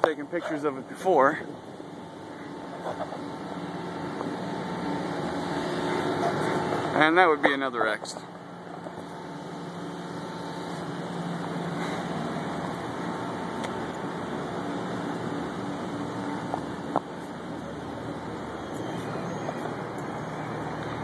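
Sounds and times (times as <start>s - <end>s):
distant traffic: 0.0s - 21.0s
machinery hum: 0.0s - 21.0s.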